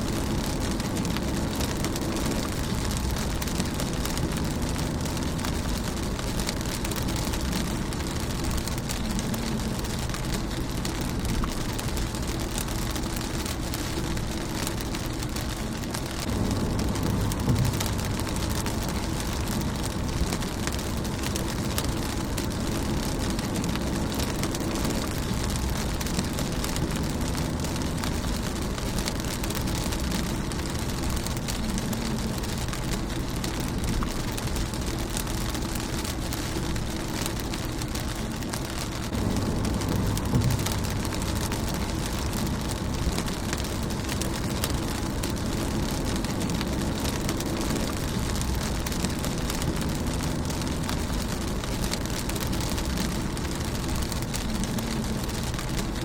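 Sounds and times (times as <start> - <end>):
low rumble: 0.0 - 56.0
rain pattering on windshield: 0.0 - 56.0.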